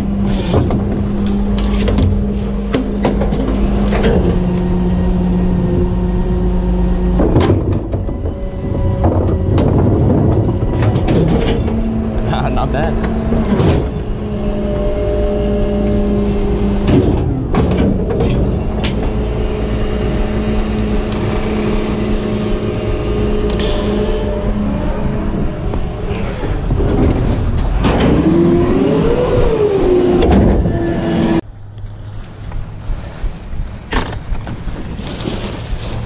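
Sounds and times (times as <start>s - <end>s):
garbage truck engine and hydraulics: 0.0s - 36.0s
rising and falling tone: 1.0s - 31.4s.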